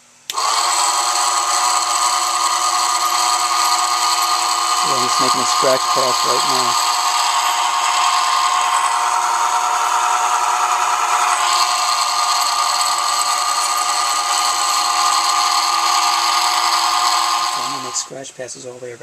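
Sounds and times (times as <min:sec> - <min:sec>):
milling machine cutter whine: 0:00.3 - 0:18.1.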